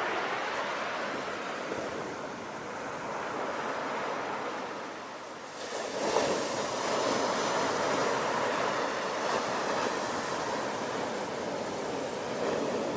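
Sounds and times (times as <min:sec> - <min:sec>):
sea waves breaking on shore: 0:00.0 - 0:12.9.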